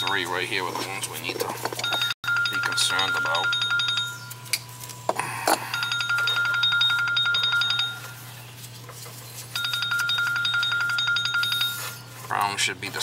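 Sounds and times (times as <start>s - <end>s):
phone ringing: 0.0s - 8.4s, 9.5s - 12.2s.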